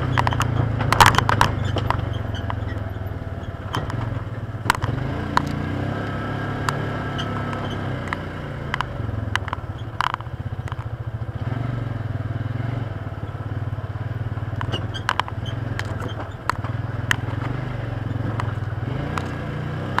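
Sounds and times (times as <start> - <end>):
sharp clicks and knocks: 0.0 - 11.1, 14.3 - 20.0
engine running: 0.0 - 20.0.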